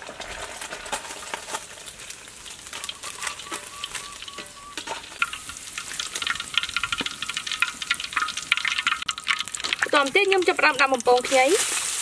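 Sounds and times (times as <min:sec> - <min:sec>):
oil sizzling and crackling in a wok: 0:00.0 - 0:12.0.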